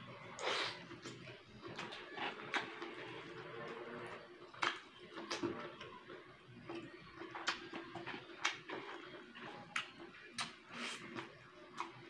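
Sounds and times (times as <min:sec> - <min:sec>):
person chewing food: 0:00.4 - 0:05.9, 0:06.6 - 0:12.0.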